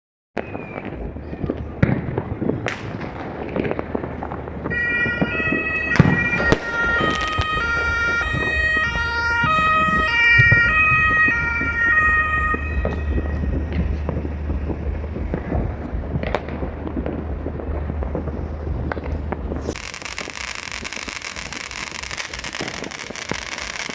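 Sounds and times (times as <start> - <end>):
fireworks popping and crackling: 0.4 - 23.9.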